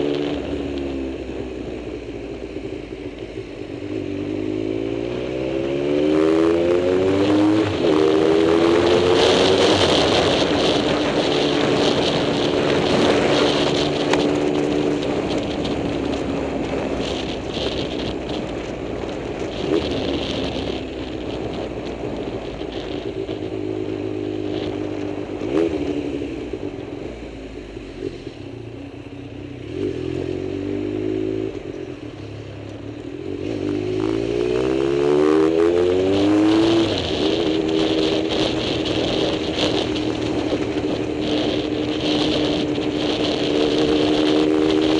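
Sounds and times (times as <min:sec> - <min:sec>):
vehicle engine revving: 0:04.0 - 0:27.0, 0:27.6 - 0:44.9.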